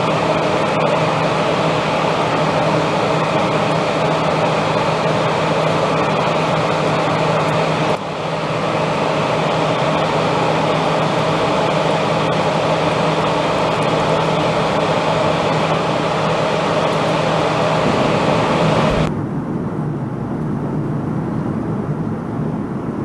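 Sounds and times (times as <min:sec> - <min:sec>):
airliner cabin noise: 0:00.0 - 0:19.9.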